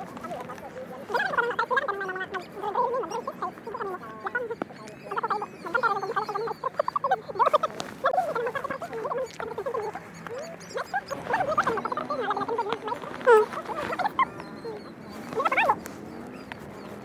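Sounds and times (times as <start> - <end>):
chorus of squeaky animal calls: 0.0 - 17.0.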